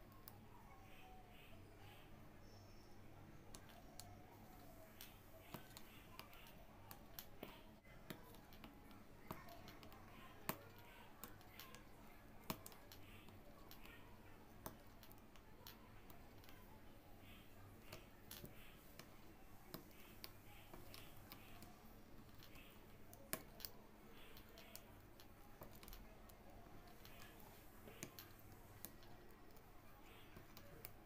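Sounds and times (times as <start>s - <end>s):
faint low hum: 0.0s - 31.0s.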